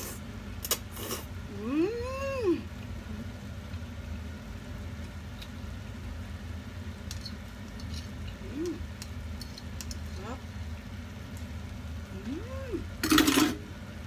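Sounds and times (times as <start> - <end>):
low motor hum: 1.3 - 13.0.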